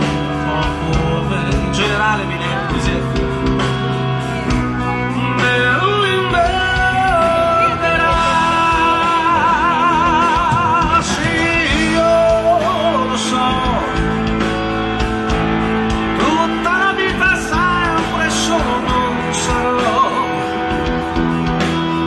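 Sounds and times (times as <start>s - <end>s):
man singing: 0.0s - 14.5s, 16.1s - 21.0s
bass guitar: 0.0s - 22.0s
drums: 0.0s - 22.0s
electric guitars: 0.0s - 22.0s
keyboard: 0.0s - 22.0s.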